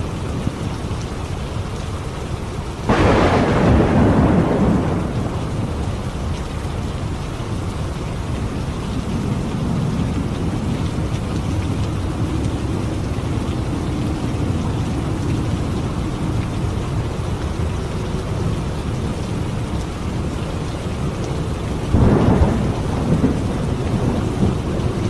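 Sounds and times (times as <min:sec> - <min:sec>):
steady rain: 0:00.0 - 0:25.0
low rumble of thunder: 0:02.9 - 0:25.0.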